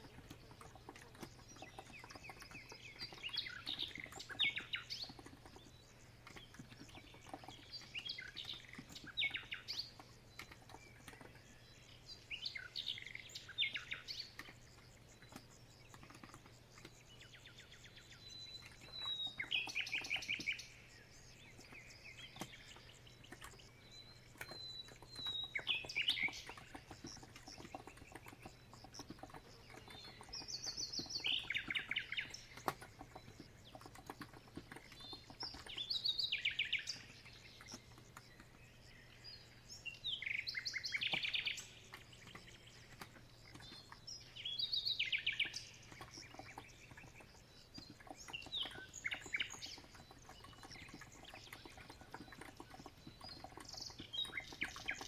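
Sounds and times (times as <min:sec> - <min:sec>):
soft keyboard typing: 0:00.0 - 0:11.9, 0:13.0 - 0:20.6, 0:21.2 - 0:39.8, 0:40.6 - 0:55.0
songbird trilling: 0:00.0 - 0:55.0.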